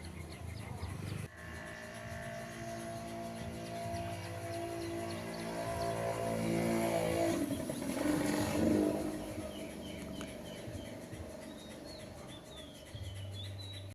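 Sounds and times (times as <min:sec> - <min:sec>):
motor vehicle passing: 0:00.0 - 0:13.9.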